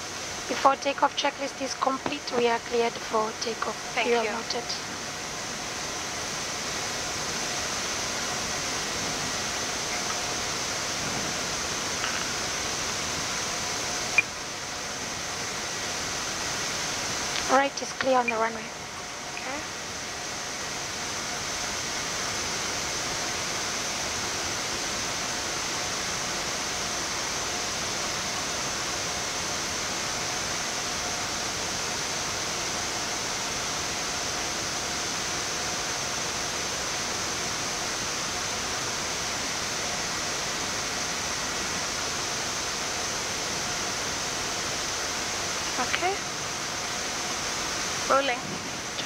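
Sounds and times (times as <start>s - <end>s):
cockpit hiss: 0.0s - 49.0s
faint steady whine: 0.0s - 49.0s.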